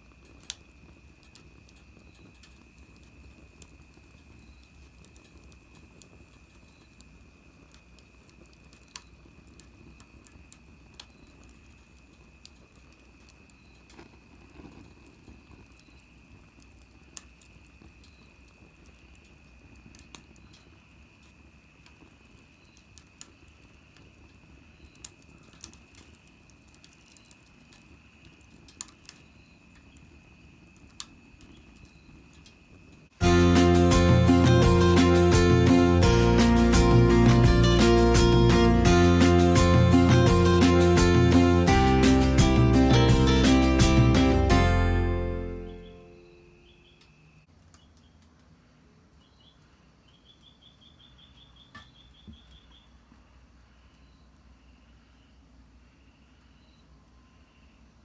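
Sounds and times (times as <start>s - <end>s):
wood fire crackling: 0.0s - 50.6s.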